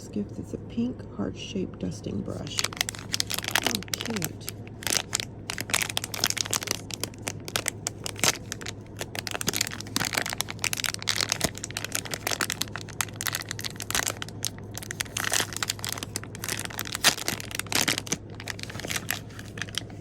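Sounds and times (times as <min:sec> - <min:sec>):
faint low hum: 0:00.0 - 0:20.0
plastic packaging crinkling: 0:02.4 - 0:20.0.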